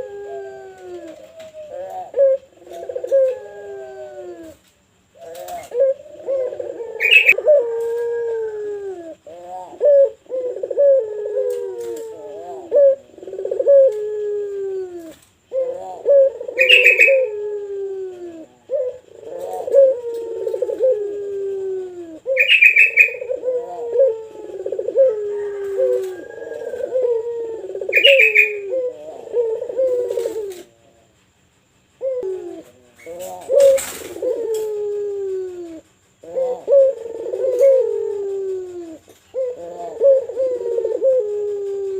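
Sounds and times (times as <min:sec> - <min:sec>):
dove cooing: 0:00.0 - 0:31.2, 0:31.9 - 0:41.9.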